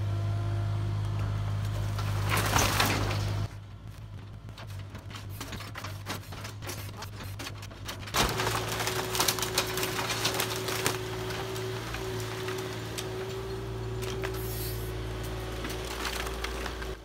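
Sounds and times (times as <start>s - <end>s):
diesel engine humming: 0.0s - 17.0s
wood cracking and clattering: 1.7s - 14.4s, 15.0s - 17.0s.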